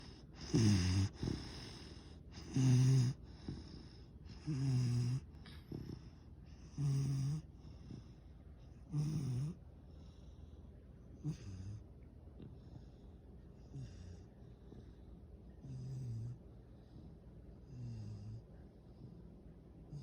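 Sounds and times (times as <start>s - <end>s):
puppy breathing: 0.0s - 20.0s
puppy snoring: 0.0s - 20.0s.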